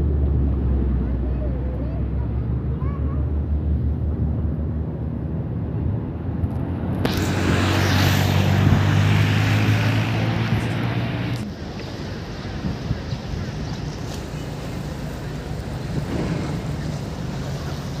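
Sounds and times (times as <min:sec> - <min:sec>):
large engine droning: 0:00.0 - 0:18.0.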